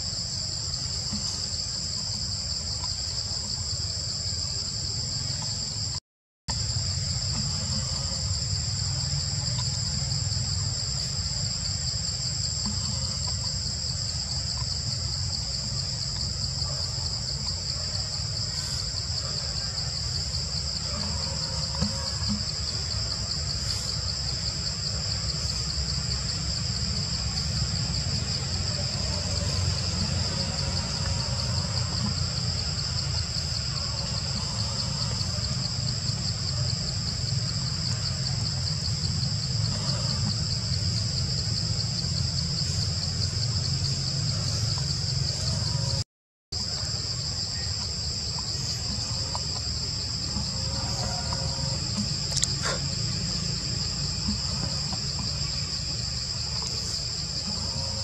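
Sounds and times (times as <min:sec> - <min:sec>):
high-pitched insect chorus: 0:00.0 - 0:46.0, 0:46.6 - 0:58.0.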